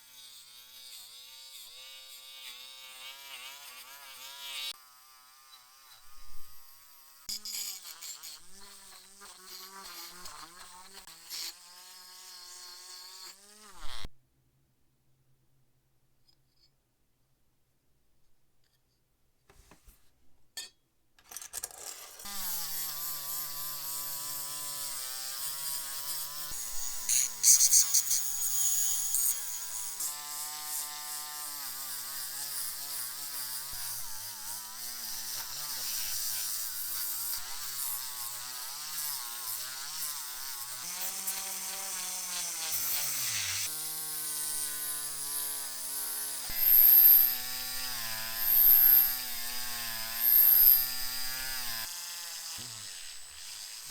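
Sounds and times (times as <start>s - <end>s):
small electric power tool running: 0.0s - 14.1s, 21.7s - 53.9s.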